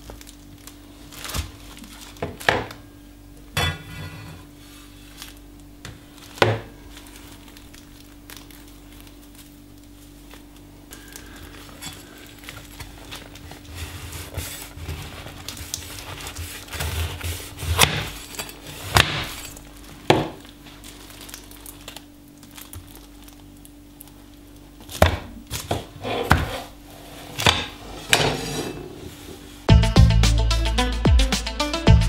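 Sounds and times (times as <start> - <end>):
faint steady hum: 0.0 - 29.7.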